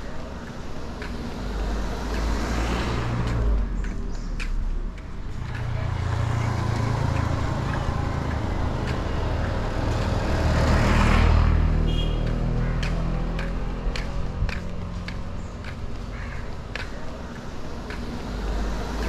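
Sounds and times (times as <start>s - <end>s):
vehicle engine passing: 0.0s - 19.0s.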